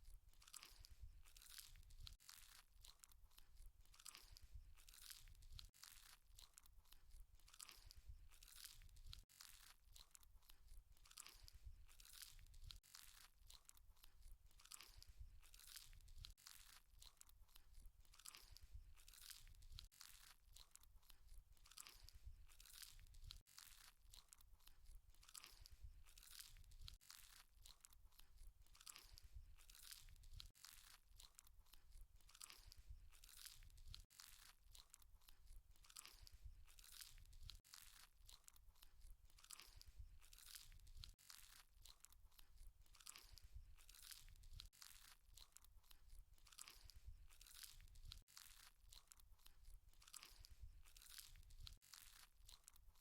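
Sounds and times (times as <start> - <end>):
chewing crunchy salad: 0.0 - 53.0.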